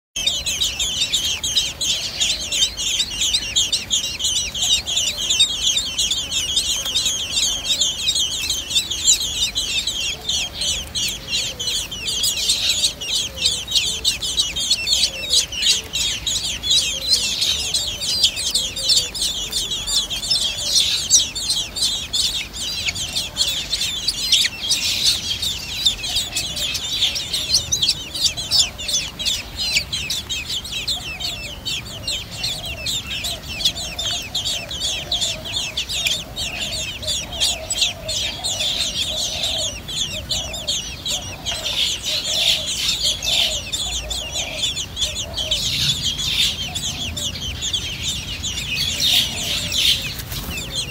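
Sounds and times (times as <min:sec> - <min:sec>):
nestlings squeaking: 0:00.2 - 0:50.9.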